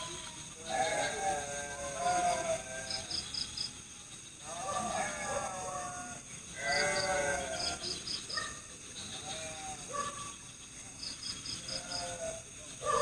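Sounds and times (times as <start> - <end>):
insect chorus chirping: 0.0 - 13.0.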